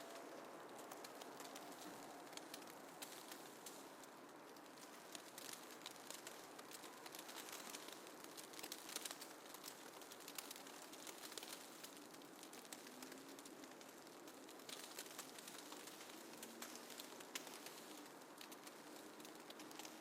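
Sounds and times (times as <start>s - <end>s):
small crackling ticks: 0.0s - 20.0s
soft snowfall hiss: 0.0s - 20.0s.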